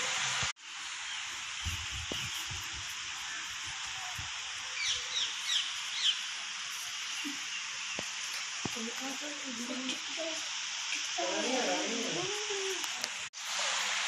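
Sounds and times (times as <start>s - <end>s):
open-air hiss: 0.0s - 14.0s.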